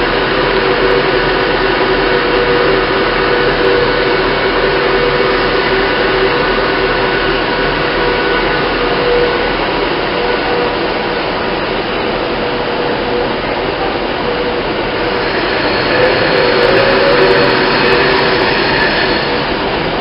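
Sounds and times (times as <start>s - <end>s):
traction motor whine: 0.0s - 20.0s
train rushing running noise: 0.0s - 20.0s.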